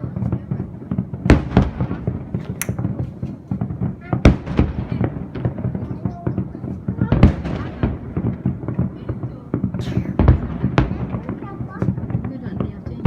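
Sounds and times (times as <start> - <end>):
firework cracks and crackles: 0.0 - 13.0
firework booms: 0.2 - 13.0.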